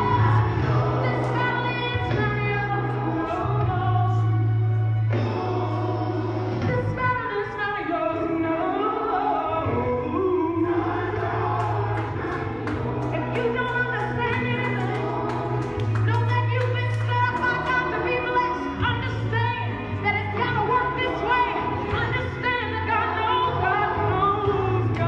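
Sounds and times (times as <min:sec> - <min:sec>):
gospel song with singing: 0:00.0 - 0:25.0.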